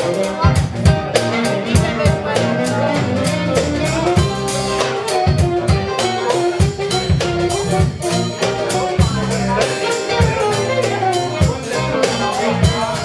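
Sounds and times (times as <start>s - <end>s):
funk band playing: 0.0s - 13.0s
saxophone: 0.0s - 13.0s.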